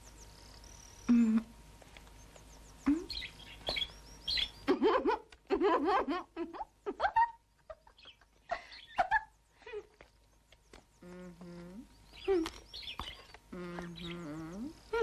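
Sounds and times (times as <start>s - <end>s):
birds chirping: 0.0s - 5.0s, 6.6s - 15.0s.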